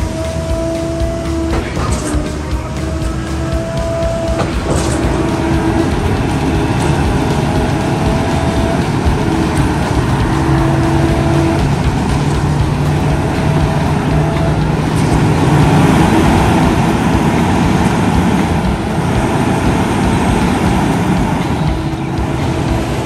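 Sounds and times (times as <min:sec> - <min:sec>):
diesel truck engines rumbling: 0:00.0 - 0:23.0.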